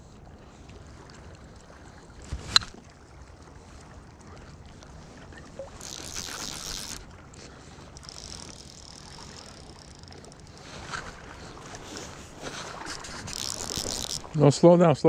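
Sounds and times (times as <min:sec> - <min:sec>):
shallow river water running: 0:00.0 - 0:15.0.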